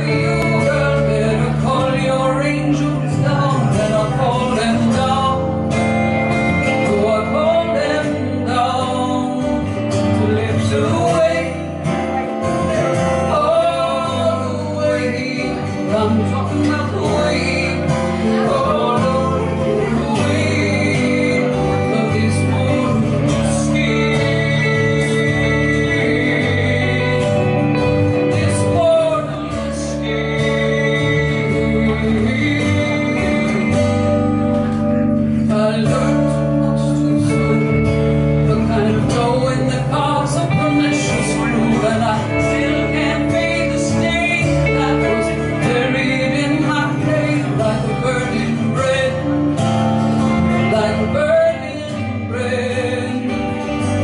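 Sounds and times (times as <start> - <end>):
live band with guitars and bass: 0.0 - 54.0.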